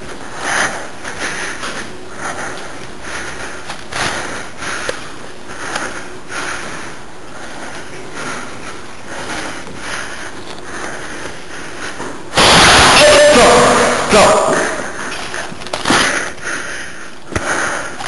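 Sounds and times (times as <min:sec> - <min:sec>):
person breathing hard: 0:00.0 - 0:12.4, 0:13.4 - 0:18.0.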